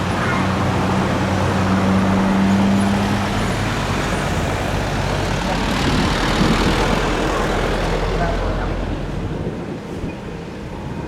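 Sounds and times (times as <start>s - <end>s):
loud engine rumble: 0.0s - 11.0s.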